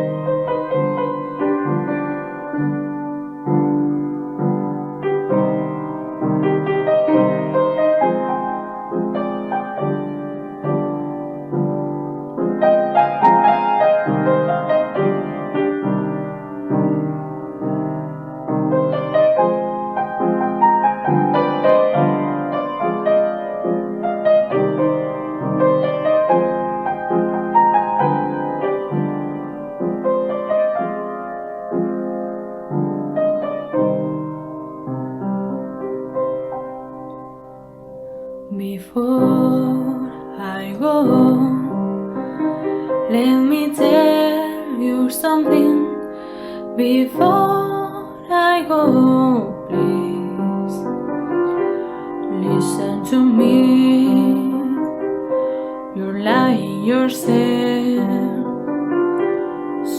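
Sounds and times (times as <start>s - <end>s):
piano chords: 0.0s - 59.9s.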